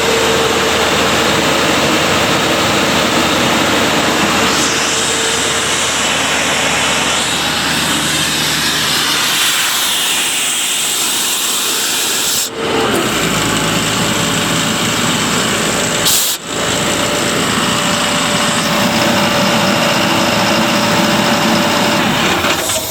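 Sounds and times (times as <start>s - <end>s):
air compressor running: 0.0s - 22.9s.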